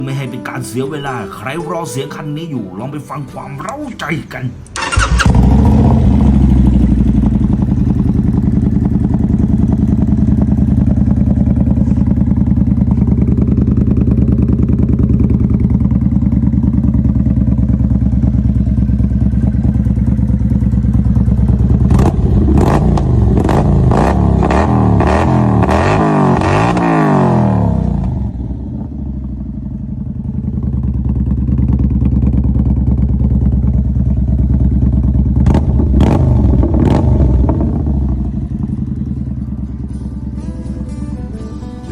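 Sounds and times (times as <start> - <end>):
motorcycle engine idling: 4.6 - 41.9
motorcycle engine revving: 4.7 - 41.9.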